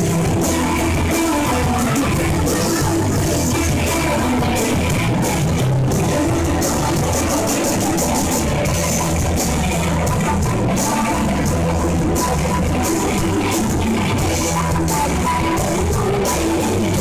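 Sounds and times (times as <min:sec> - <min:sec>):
drum kit: 0:00.0 - 0:17.0
electric guitars: 0:00.0 - 0:17.0.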